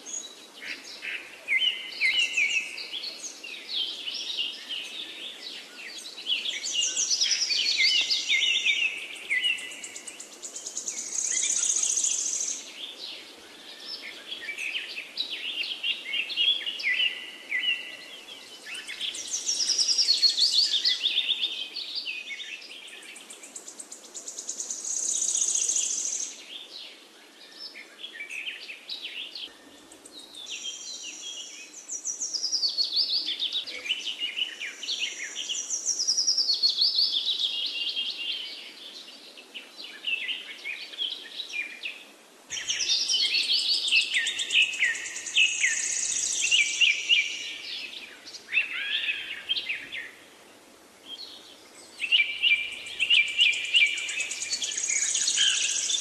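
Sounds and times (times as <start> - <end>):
birdsong: 0.0 - 56.0.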